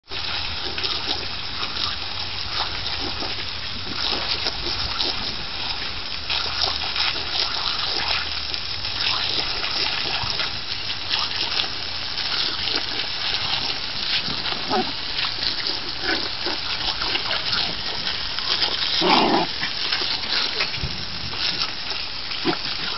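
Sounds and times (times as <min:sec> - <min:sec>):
hose water splashing on paving: 0:00.0 - 0:22.9.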